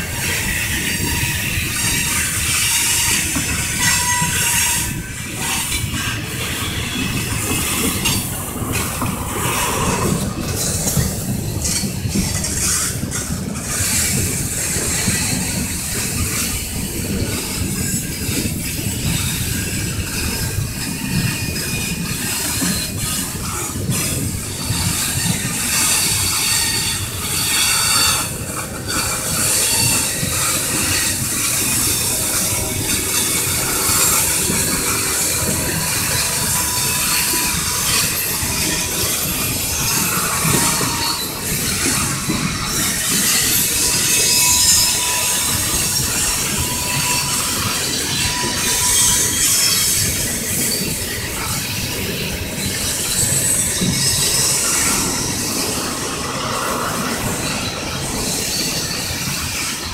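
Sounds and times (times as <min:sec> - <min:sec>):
train wheels clattering on rails: 0:00.0 - 0:59.9
metallic wheel squealing: 0:00.1 - 0:59.9.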